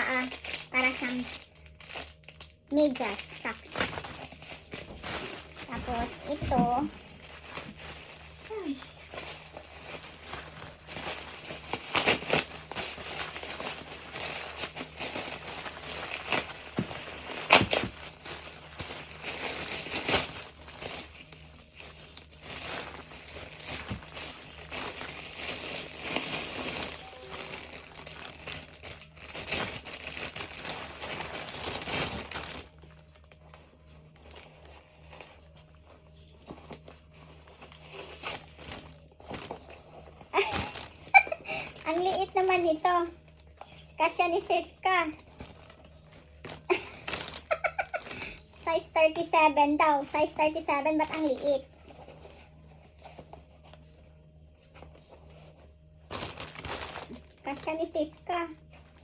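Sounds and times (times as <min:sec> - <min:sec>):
packaging crinkling and rustling: 0:00.0 - 0:59.0.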